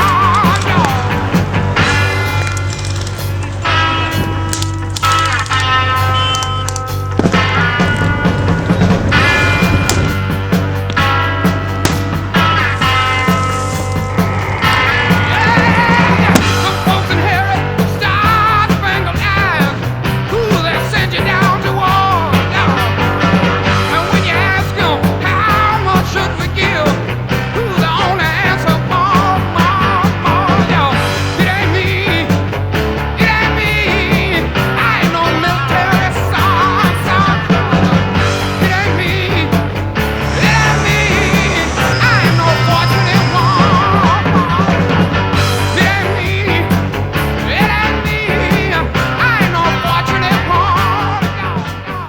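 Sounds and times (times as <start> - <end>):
rock music: 0.0 - 52.0.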